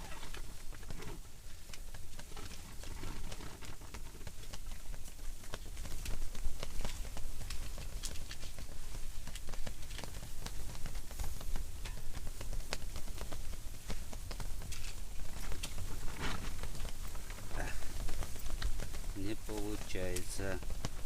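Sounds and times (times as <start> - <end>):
strong wind buffeting tent: 0.0 - 21.0
ticks and taps on tent: 0.0 - 21.0.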